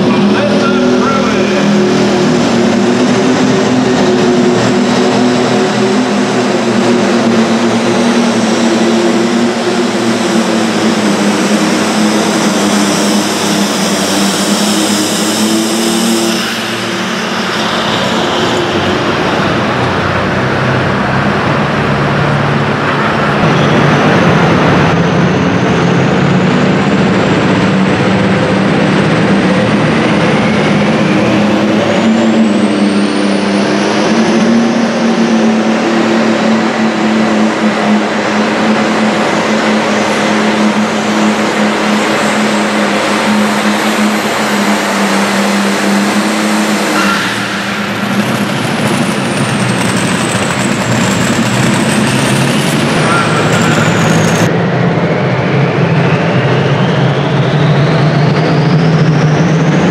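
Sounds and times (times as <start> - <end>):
rising engine whine: 0.0 - 59.9
tractor engine at high revs: 0.0 - 59.9.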